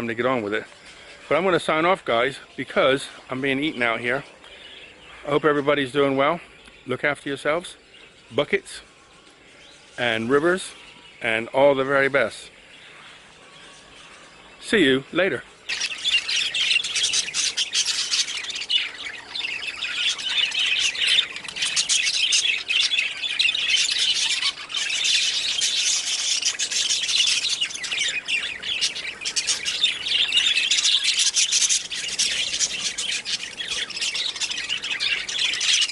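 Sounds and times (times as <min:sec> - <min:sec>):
budgerigars chattering: 0:00.0 - 0:35.9.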